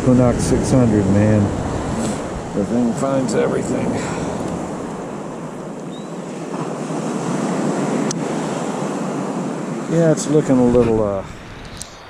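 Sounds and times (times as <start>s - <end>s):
surf breaking on beach: 0.0s - 12.0s
wind on microphone: 0.0s - 12.0s.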